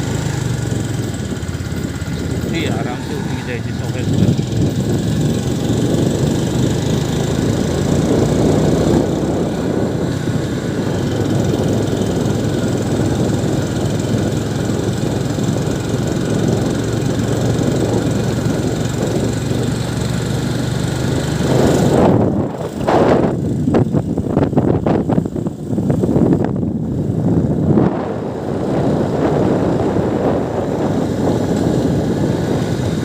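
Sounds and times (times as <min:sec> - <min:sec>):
constant rush of noise: 0:00.0 - 0:33.0
vehicle engine running: 0:00.0 - 0:33.0.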